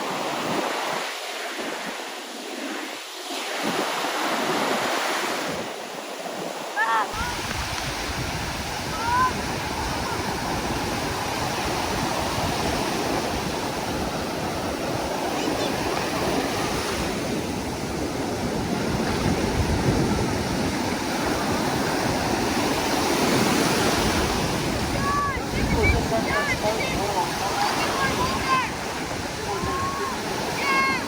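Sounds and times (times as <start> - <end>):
ocean surf washing onto beach: 0.0 - 31.0.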